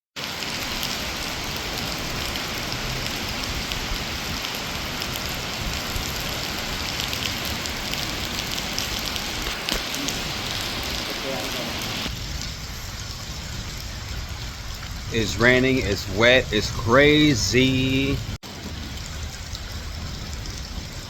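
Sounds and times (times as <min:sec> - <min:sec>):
heavy rain falling: 0:00.2 - 0:21.0.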